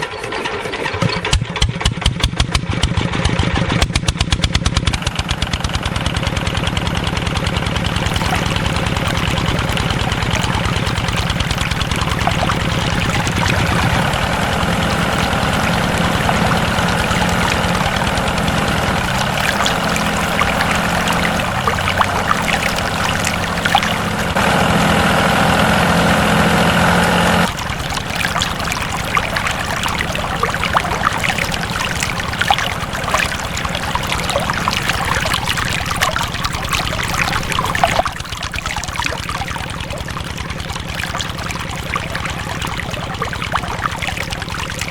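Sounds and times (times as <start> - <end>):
water pouring and trickling: 4.0 - 44.9
small motor droning: 5.0 - 44.9.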